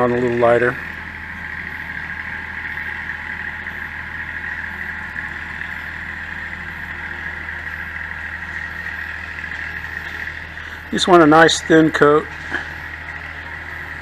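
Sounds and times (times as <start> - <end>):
mechanical hum with hiss: 0.0 - 14.0.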